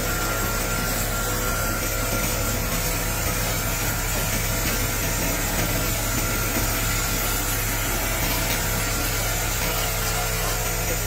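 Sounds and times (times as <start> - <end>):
laser cleaner hissing: 0.0 - 11.0
low machine hum: 0.0 - 11.0.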